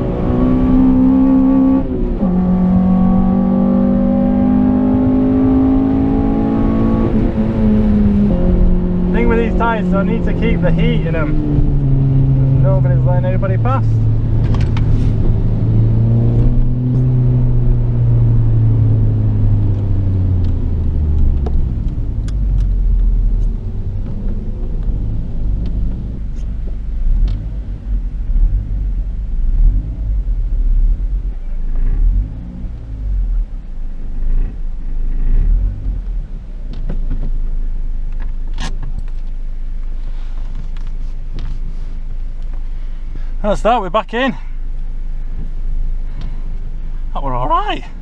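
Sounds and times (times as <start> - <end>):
car engine from inside cabin: 0.0 - 43.4.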